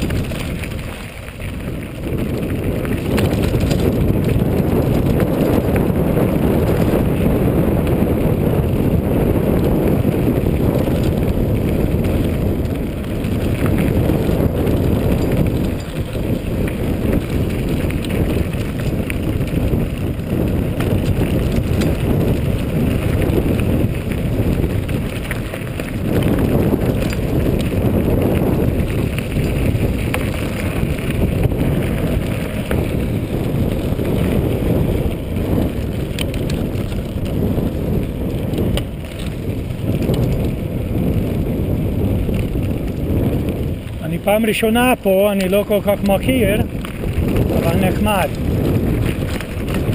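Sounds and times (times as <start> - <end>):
bike rattling: 0.0 - 49.9
tyres rumbling on gravel: 0.0 - 49.9
wind on microphone: 0.0 - 49.9.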